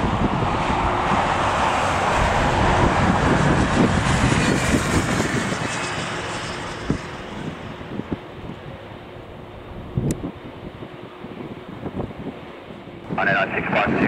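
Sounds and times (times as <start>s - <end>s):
jet engines running: 0.0s - 14.0s
wind buffeting microphone: 0.0s - 14.0s.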